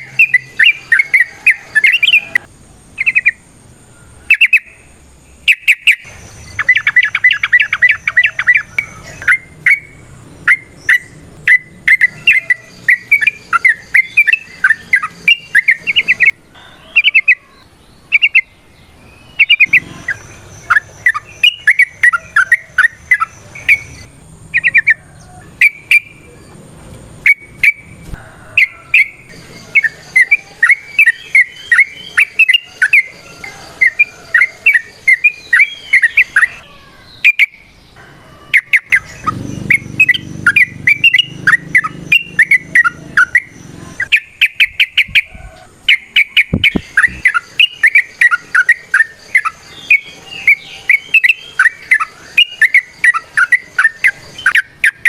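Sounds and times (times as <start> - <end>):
bird singing chattering song: 0.0 - 55.0.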